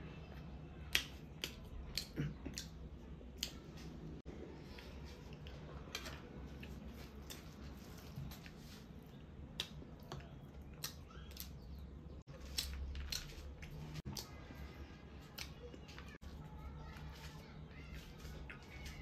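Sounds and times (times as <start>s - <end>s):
person chewing food: 0.3s - 19.0s.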